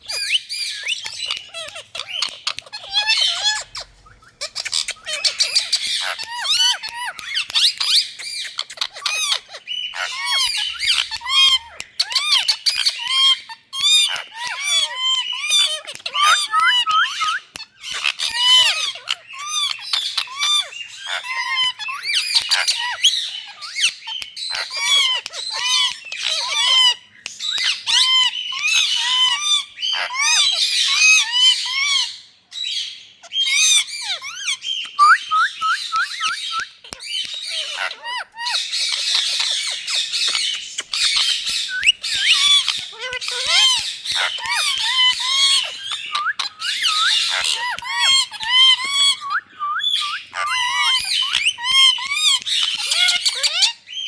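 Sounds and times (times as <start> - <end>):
parakeet squawking and chirping: 0.0 - 54.0.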